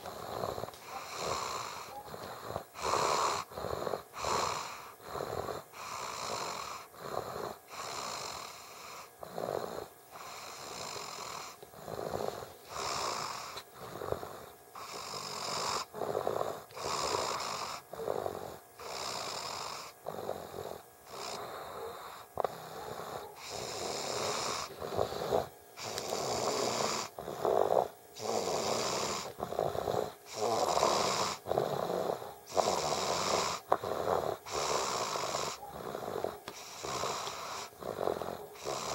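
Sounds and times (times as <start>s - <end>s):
child snoring: 0.0s - 38.9s.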